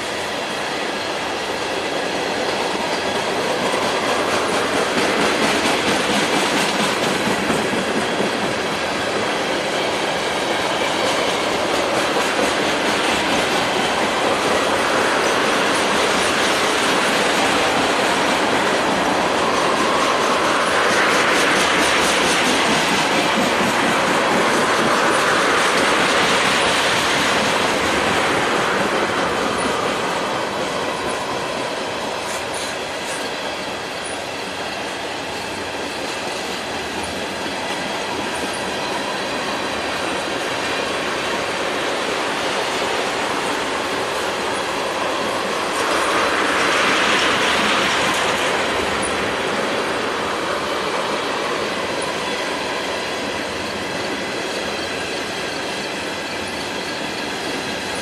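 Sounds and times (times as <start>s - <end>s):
train wheels rushing on rail: 0.0s - 58.0s.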